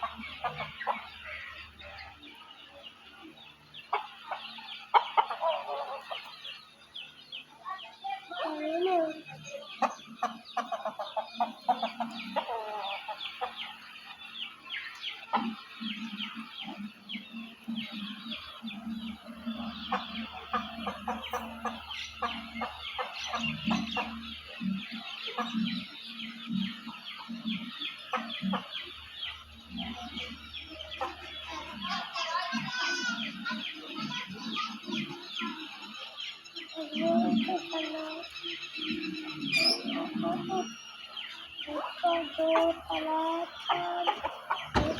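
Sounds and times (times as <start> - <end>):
chicks cheeping: 0.0 - 44.9
hens clucking: 0.0 - 44.9.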